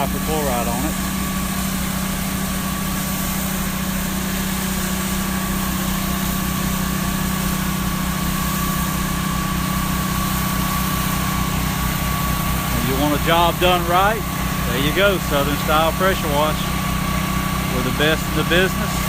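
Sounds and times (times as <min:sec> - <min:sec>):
pressure washer pump throbbing: 0:00.0 - 0:19.0.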